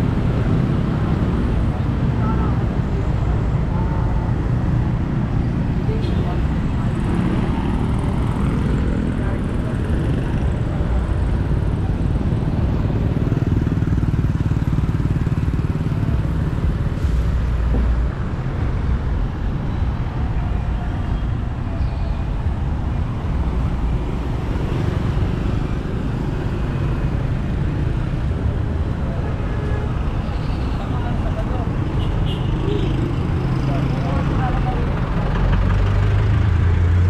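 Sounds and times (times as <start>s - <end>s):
road and traffic noise: 0.0s - 37.0s
vehicle rumble: 0.0s - 37.0s.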